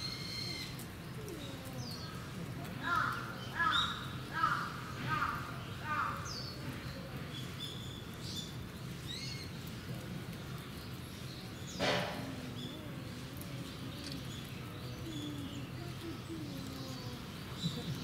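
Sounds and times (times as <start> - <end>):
distant voices: 0.0 - 18.0
small birds chirping: 0.0 - 18.0.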